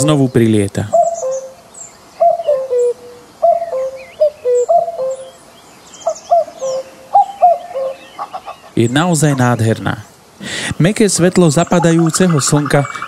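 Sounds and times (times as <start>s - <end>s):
cuckoo calling: 0.0s - 10.0s, 11.3s - 13.0s
small songbirds chirping: 0.0s - 13.0s.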